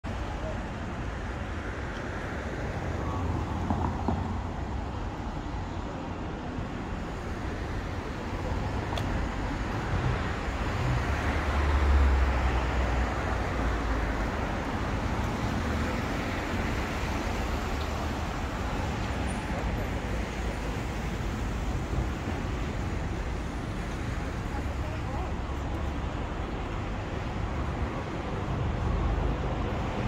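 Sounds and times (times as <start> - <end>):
cars passing on street: 0.0 - 30.0.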